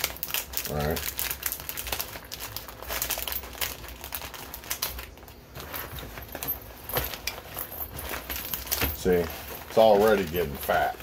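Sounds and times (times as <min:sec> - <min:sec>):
plastic packets crinkling: 0:00.0 - 0:11.0
nylon pouch rustling: 0:01.5 - 0:11.0.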